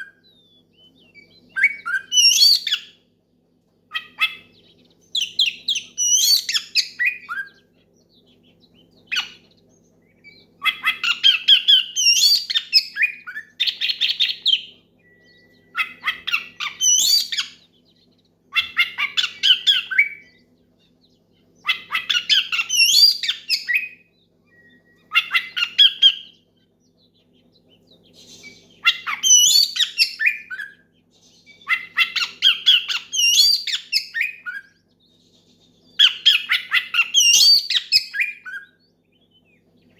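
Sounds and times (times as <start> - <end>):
bird singing whistles: 0.0 - 3.0, 3.9 - 18.0, 18.6 - 20.6, 21.6 - 39.9.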